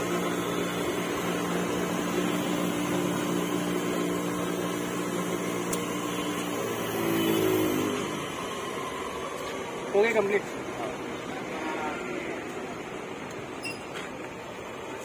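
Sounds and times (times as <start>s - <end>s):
cotton candy machine humming: 0.0s - 15.0s.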